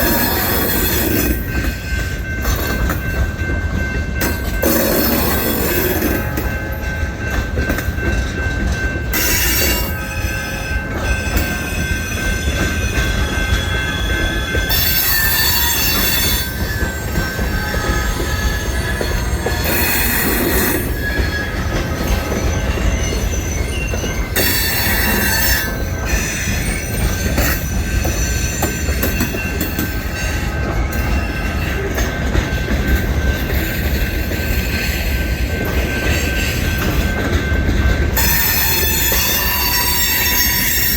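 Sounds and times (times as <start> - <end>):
freight train rumbling: 0.0 - 40.9
train wheel squeal: 0.0 - 40.9.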